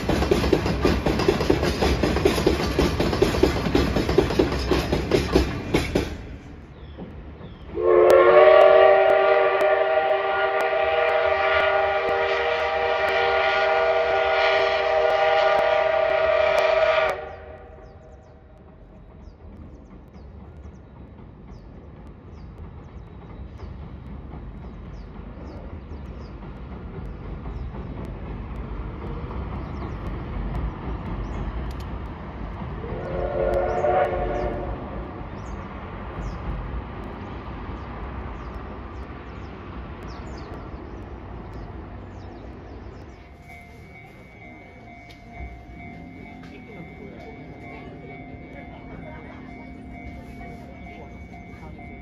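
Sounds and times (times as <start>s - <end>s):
train rumbling across steel bridge: 0.0s - 52.0s.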